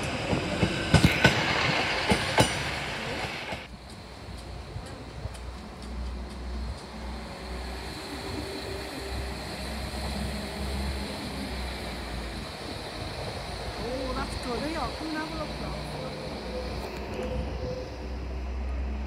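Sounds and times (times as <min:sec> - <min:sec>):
train engine rumbling: 0:00.0 - 0:19.0.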